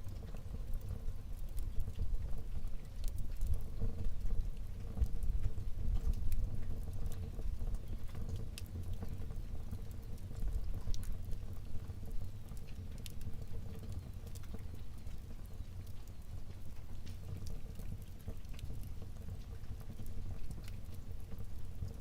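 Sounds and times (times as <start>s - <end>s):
fire crackling and popping: 0.0s - 22.0s
fire flame rumble: 0.0s - 22.0s.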